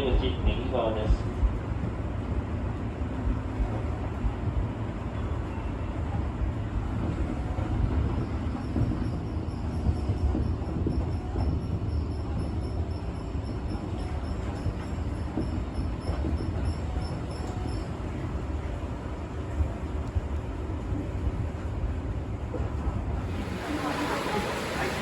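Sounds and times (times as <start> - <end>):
electric train rumble: 0.0 - 25.0.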